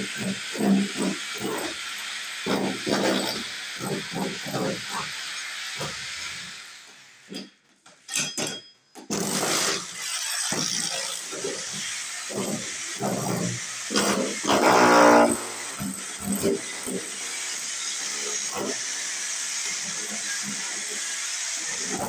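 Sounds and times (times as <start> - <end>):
power drill boring into wood: 0.0 - 6.9, 9.1 - 22.0.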